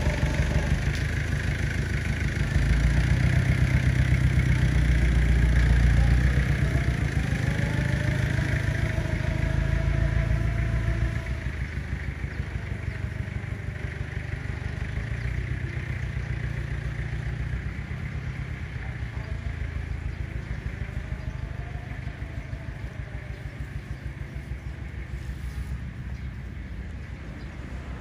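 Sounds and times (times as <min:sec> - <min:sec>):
small engine idling: 0:00.0 - 0:28.0.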